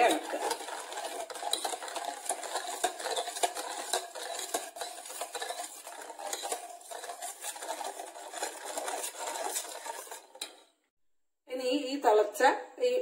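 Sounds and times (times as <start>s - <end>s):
spoon stirring in metal bowl: 0.0s - 10.8s.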